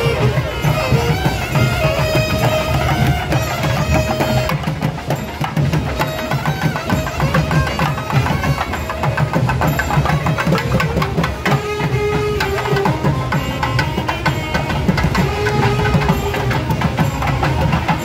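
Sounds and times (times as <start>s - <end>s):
frame drums beaten fast: 0.0s - 18.0s.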